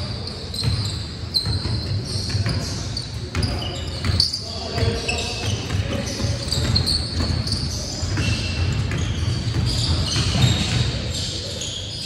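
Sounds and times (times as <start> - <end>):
basketball dribbling and bouncing: 0.0 - 11.2
shoe squeaks on gym floor: 0.0 - 12.0.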